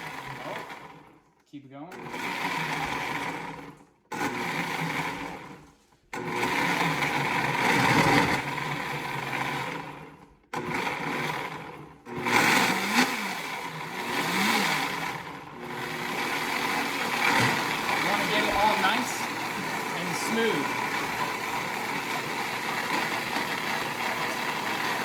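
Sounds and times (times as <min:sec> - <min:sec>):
blender motor running: 0:00.0 - 0:01.2, 0:01.9 - 0:25.0.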